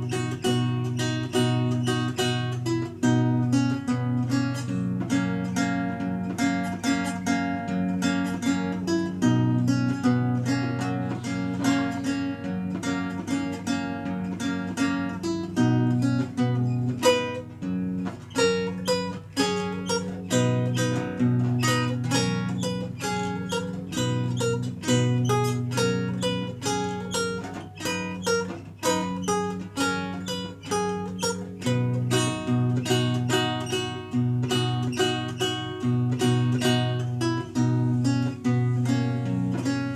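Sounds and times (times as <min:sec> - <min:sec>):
solo lute playing: 0:00.0 - 0:39.9.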